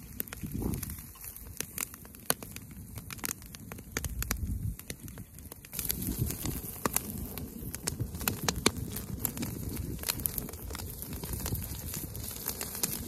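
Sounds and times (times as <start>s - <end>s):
sharp fire pops: 0.0s - 13.0s
wood fire crackling: 0.0s - 13.0s.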